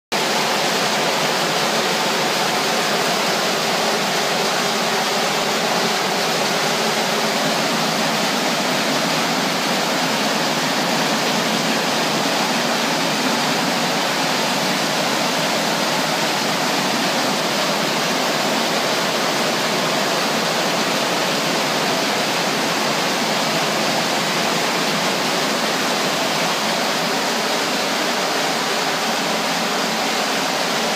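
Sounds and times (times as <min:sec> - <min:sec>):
heavy rain pouring: 0:00.2 - 0:30.9.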